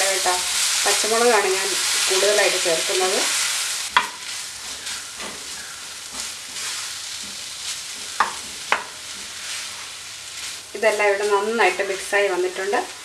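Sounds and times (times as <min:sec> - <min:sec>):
light steady sizzle: 0:00.0 - 0:13.0
wooden spatula scraping a pan: 0:00.5 - 0:13.0.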